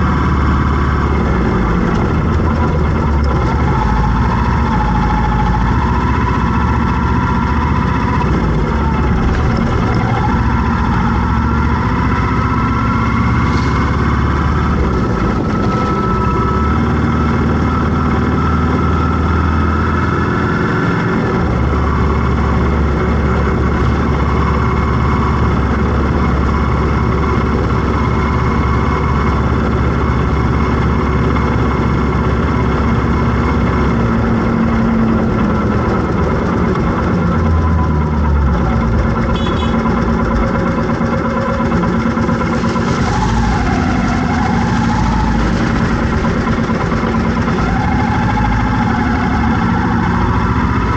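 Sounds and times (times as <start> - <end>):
road noise: 0.0 - 50.9
vehicle engines humming: 0.0 - 50.9.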